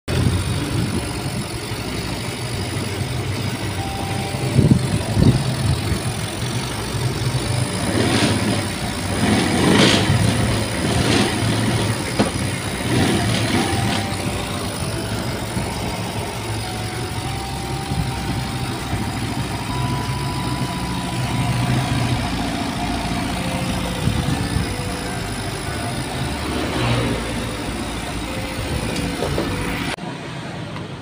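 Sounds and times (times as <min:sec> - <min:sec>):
motorcycle engine idling: 0:00.1 - 0:30.0.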